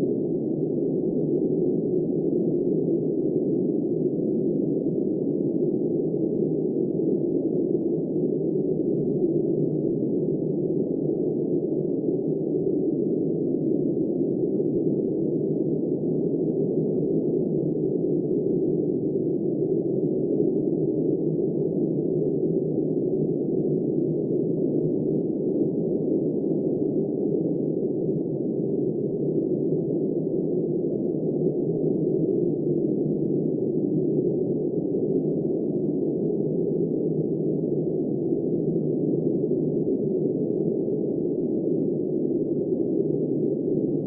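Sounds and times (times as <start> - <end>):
muffled wind noise: 0.0 - 44.0.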